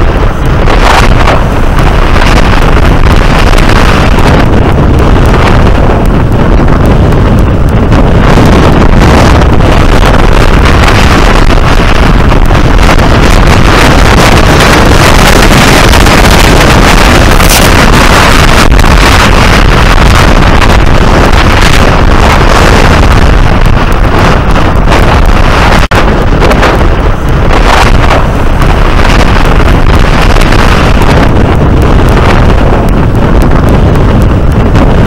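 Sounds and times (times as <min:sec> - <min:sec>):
surf breaking on rocks: 0:00.0 - 0:33.8
wind buffeting microphone: 0:00.0 - 0:35.0.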